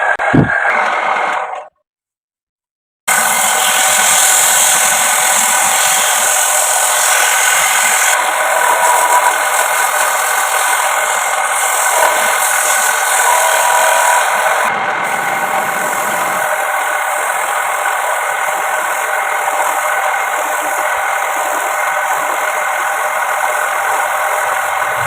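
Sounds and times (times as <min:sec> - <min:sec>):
wood lathe whirring: 0:00.0 - 0:01.7, 0:03.1 - 0:25.0.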